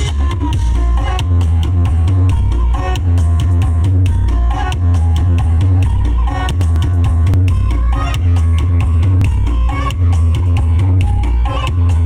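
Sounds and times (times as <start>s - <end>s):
drum beat: 0.0s - 11.2s
loud music with booming bass: 0.0s - 12.0s.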